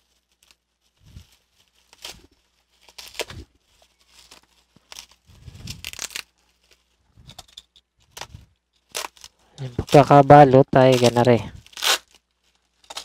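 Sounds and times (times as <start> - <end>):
packaging tearing and crinkling: 0.0 - 7.0, 7.6 - 13.0.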